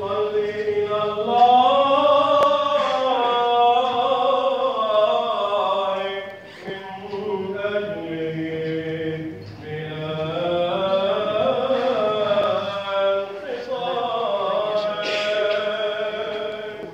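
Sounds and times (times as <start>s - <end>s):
man chanting: 0.0s - 16.9s.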